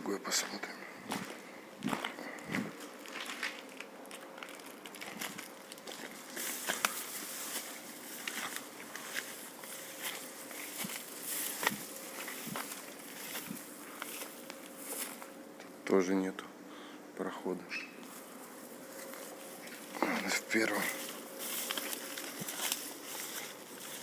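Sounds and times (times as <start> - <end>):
footsteps crunching underfoot: 0.0 - 16.4, 18.0 - 24.0.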